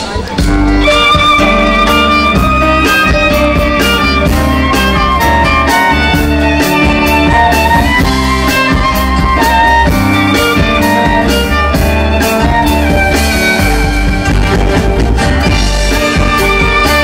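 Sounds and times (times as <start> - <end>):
bass: 0.0 - 17.0
drum kit steady beat: 0.0 - 17.0
guitar: 0.0 - 17.0
violin: 0.0 - 17.0.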